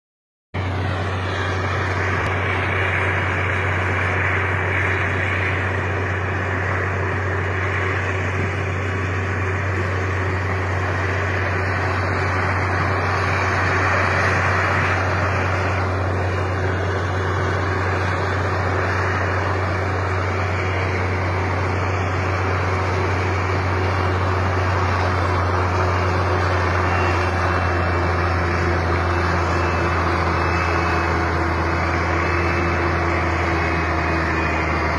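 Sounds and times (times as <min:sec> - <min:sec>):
heavy vehicle engine running: 0:00.6 - 0:34.9.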